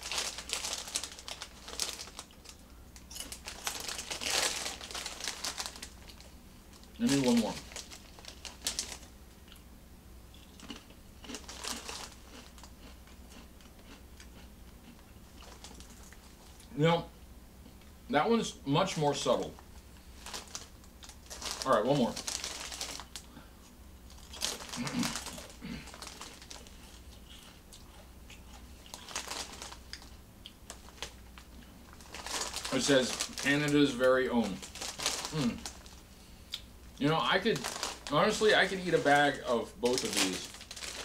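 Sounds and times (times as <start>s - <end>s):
potato chip crunching: 0.0s - 9.6s, 10.4s - 16.7s, 20.2s - 23.4s, 24.1s - 41.0s.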